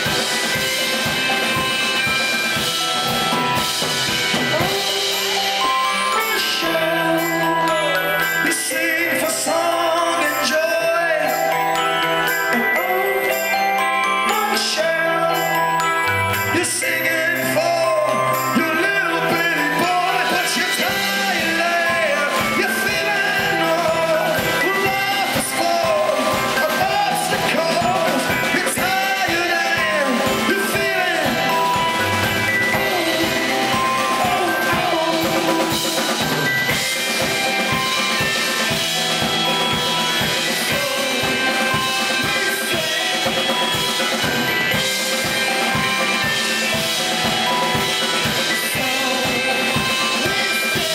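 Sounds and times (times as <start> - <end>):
drums: 0.0 - 50.9
electric guitar: 0.0 - 50.9
keyboards: 0.0 - 50.9
man singing: 4.2 - 50.9.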